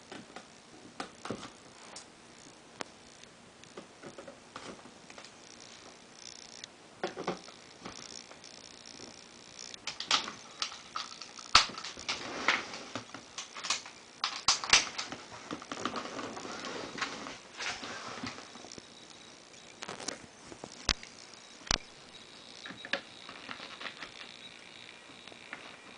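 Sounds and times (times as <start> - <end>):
small clicks: 0.0 - 25.9.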